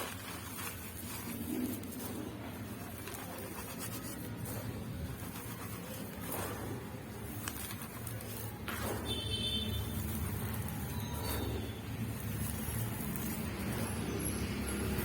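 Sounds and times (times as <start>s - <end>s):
charcoal powder crackling by hand: 0.0s - 15.0s.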